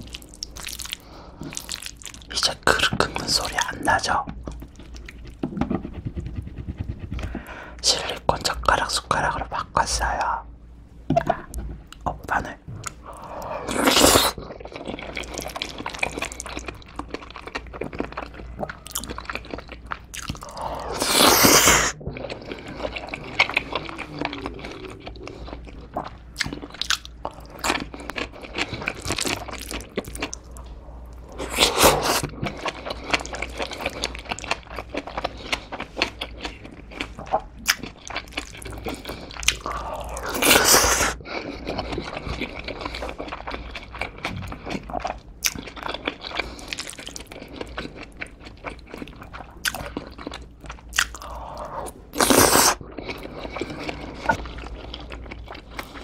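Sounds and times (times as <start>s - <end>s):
chewing noodles: 0.0s - 9.6s, 12.8s - 56.0s.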